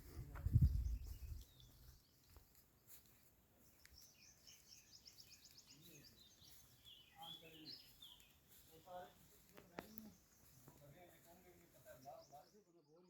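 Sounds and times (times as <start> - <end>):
faint birdsong chirps: 0.0 - 13.0.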